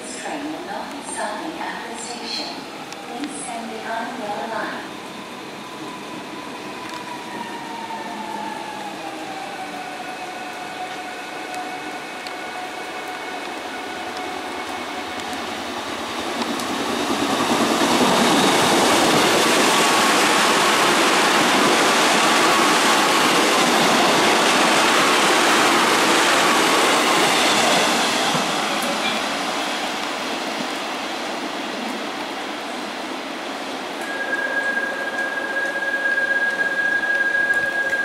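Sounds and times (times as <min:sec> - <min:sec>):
train wheels rushing on rails: 0:00.1 - 0:38.0.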